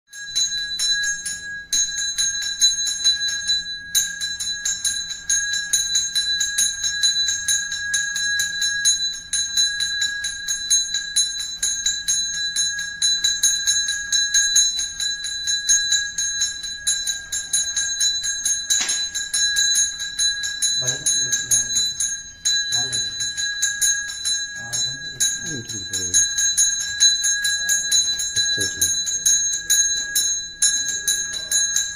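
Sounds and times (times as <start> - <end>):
hand bell ringing rapidly: 0.1 - 31.9.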